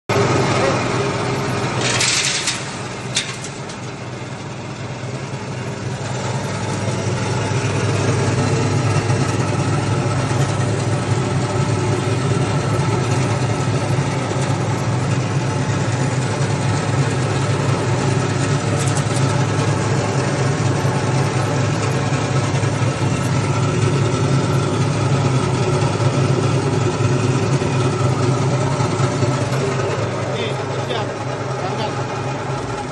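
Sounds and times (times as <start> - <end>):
small petrol engine running: 0.1 - 32.9.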